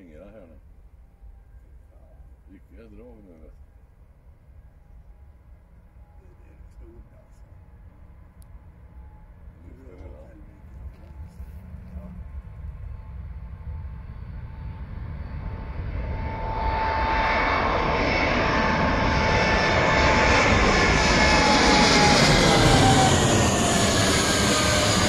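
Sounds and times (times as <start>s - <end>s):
high engine whine: 0.0s - 25.0s
jet engines at takeoff power: 0.0s - 25.0s.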